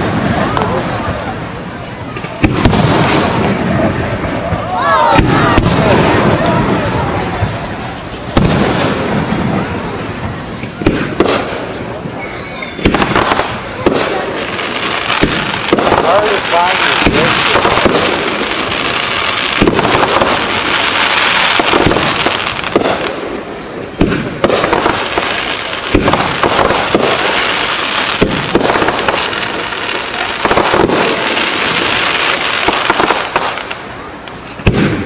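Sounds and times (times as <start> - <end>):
fireworks crackle and hiss: 0.0 - 35.0
fireworks shells booming: 0.0 - 35.0.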